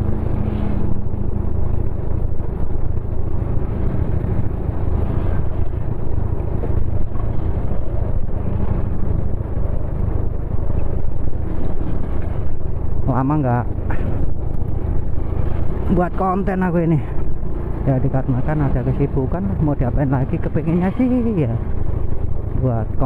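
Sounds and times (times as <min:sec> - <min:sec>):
motorcycle engine rumble: 0:00.0 - 0:23.0.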